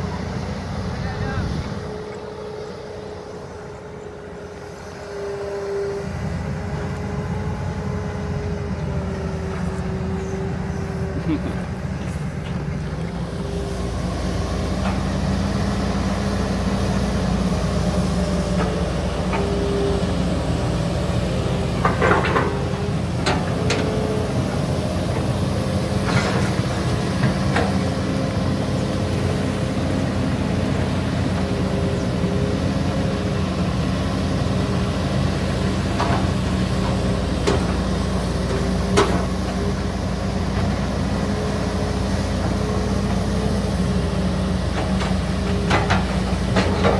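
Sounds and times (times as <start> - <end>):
excavator diesel engines running: 0.0 - 46.9.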